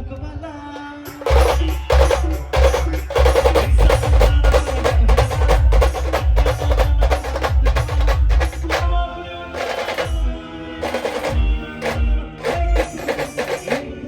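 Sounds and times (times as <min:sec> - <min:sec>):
rapid drum and percussion strokes: 0:01.0 - 0:14.0
booming bass drum beats: 0:01.1 - 0:13.9.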